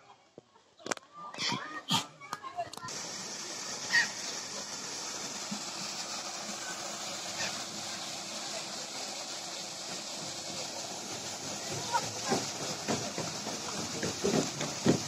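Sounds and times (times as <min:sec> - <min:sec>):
waterfall splashing into pond: 0:02.8 - 0:15.0.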